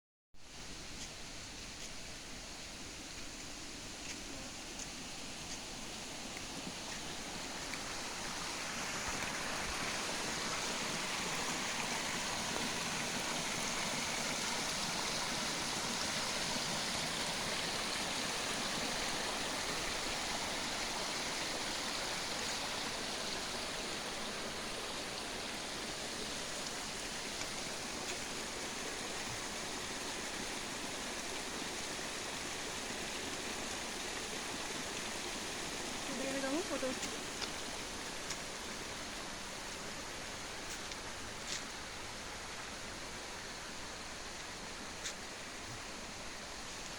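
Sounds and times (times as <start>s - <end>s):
water rushing: 0.6s - 46.9s.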